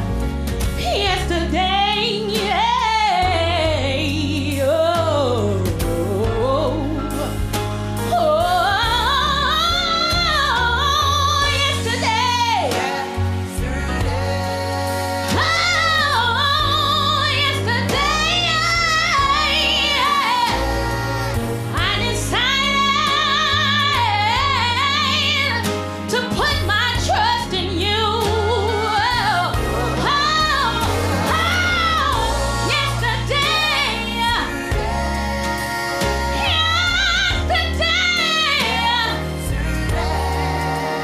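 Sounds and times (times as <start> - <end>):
band accompaniment with bass: 0.0 - 41.0
singer with wide vibrato: 8.2 - 41.0.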